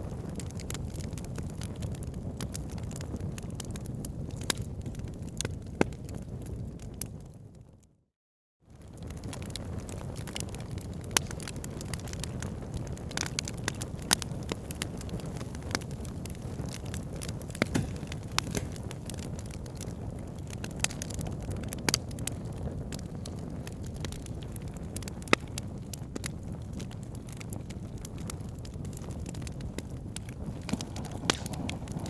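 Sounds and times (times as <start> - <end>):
wood fire crackling in fireplace: 0.0 - 7.3, 8.8 - 32.0.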